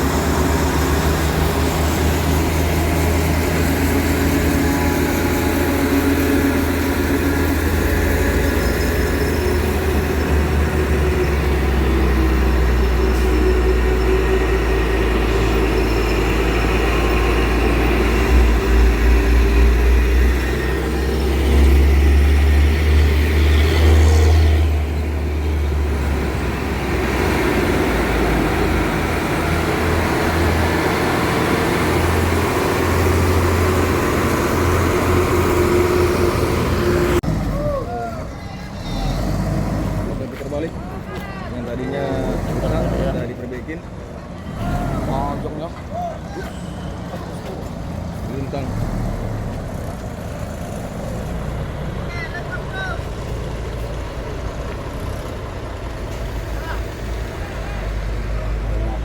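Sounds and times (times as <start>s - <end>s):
truck diesel engine rumble: 0.0s - 59.0s.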